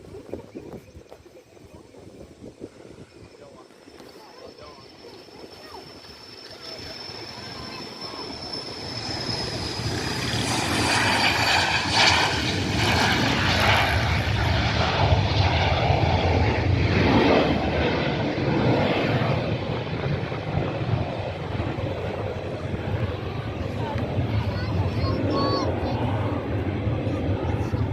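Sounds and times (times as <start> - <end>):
high jet whine: 1.5 - 27.9
jet roar on takeoff: 2.3 - 27.9.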